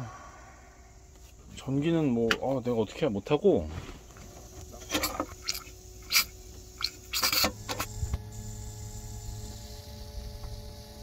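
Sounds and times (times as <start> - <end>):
faint steady tones: 0.0 - 11.0.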